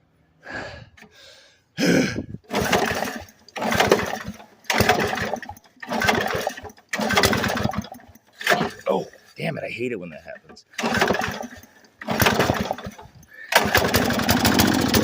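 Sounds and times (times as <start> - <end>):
lawnmower engine cranking: 2.5 - 15.0.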